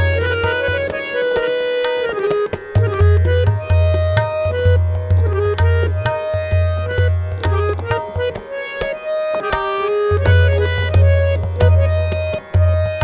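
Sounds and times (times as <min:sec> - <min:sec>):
harmonium melody: 0:00.0 - 0:13.0
tabla strokes: 0:00.0 - 0:13.0.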